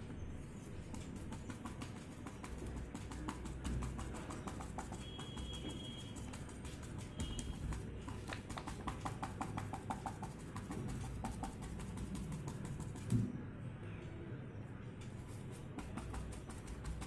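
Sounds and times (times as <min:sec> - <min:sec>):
paintbrush dabbing on paper: 0:00.0 - 0:13.2, 0:15.1 - 0:17.0.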